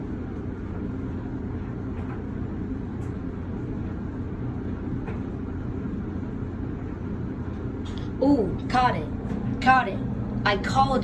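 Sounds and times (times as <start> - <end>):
clothes dryer drum rumbling: 0.0 - 11.0.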